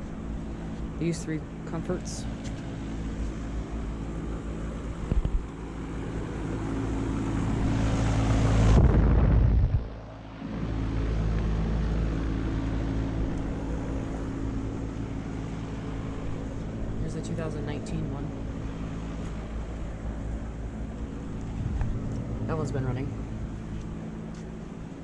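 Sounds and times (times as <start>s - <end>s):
air conditioner units humming: 0.0s - 8.7s, 9.9s - 25.0s
rushing wind-like noise: 2.3s - 17.1s, 18.2s - 25.0s.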